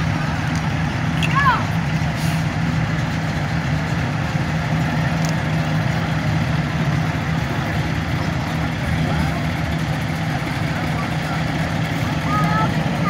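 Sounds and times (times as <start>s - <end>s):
vehicle engines droning: 0.0s - 13.0s.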